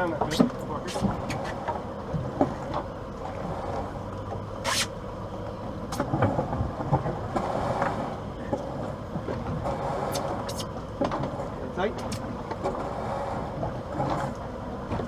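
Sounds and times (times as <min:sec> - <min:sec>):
boat engine running at low revs: 0:00.0 - 0:15.0.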